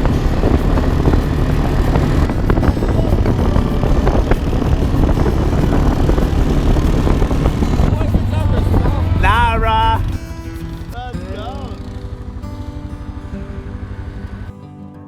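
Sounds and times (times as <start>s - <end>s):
engine running with low rumble: 0.0s - 14.5s.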